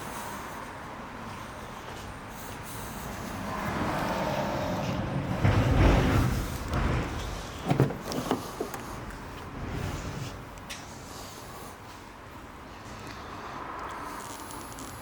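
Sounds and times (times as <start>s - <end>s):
car passing: 0.2s - 15.0s.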